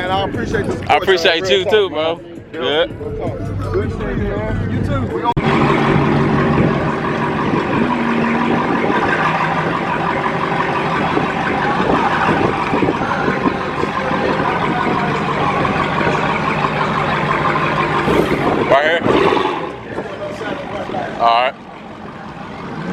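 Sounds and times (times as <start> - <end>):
car engines running: 0.0 - 22.9.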